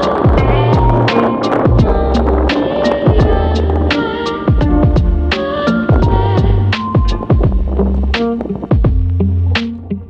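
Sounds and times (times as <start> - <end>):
electronic music with drum beat: 0.0 - 9.8.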